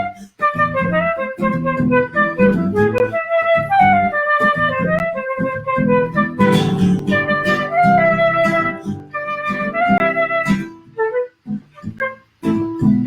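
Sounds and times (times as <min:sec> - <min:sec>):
acoustic guitar accompaniment: 0:00.0 - 0:13.0
woodwind melody: 0:00.0 - 0:13.0.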